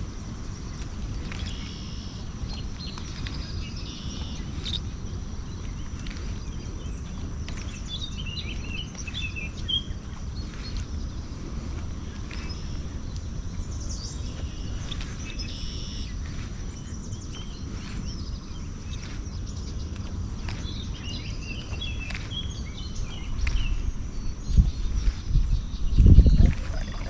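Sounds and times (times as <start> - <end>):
birds chirping: 0.0 - 27.0
low rumble: 0.0 - 27.0.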